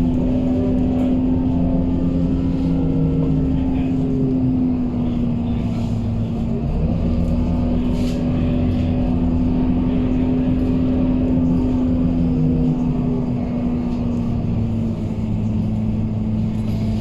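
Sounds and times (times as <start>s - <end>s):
bus diesel engine droning: 0.0s - 17.0s
drivetrain whine: 0.0s - 17.0s.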